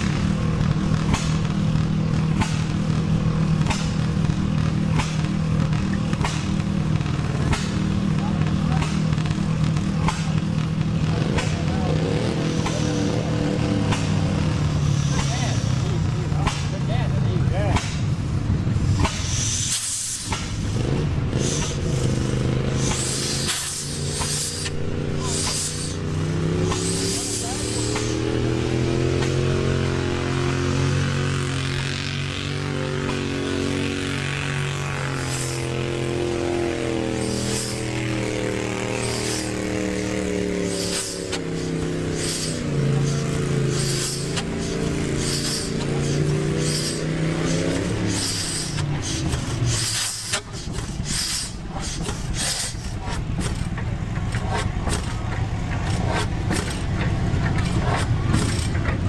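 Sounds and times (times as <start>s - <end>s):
gas engine exhaust puffs: 0.0s - 59.0s.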